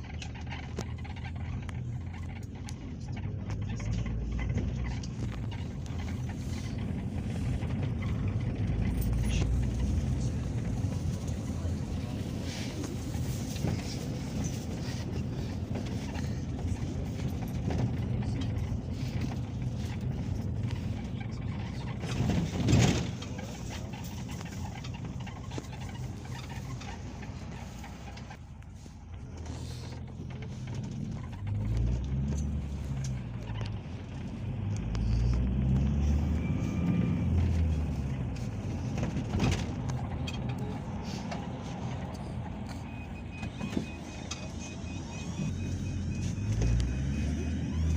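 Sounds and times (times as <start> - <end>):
vehicle engine and road rumble: 0.0 - 47.9.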